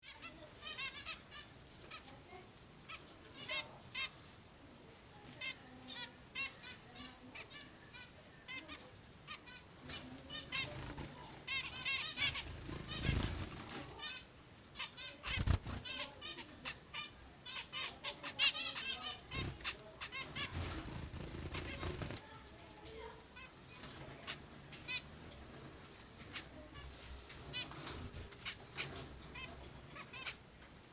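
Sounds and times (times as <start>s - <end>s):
finches chirping: 0.0s - 4.3s, 5.3s - 30.5s.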